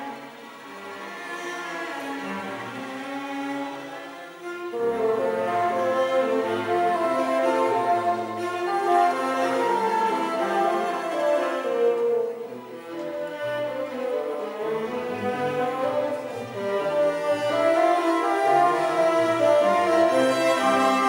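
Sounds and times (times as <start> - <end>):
string orchestra playing: 0.0 - 21.0.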